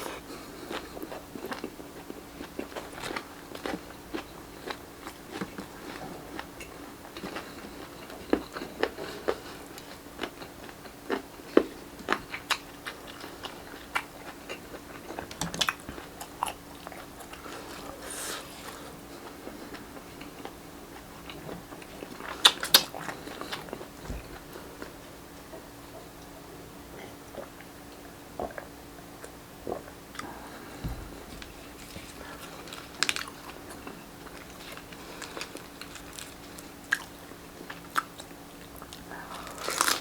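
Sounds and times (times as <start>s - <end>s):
person chewing and crunching food: 0.0s - 26.2s, 26.9s - 40.0s
faint steady hum: 0.0s - 40.0s.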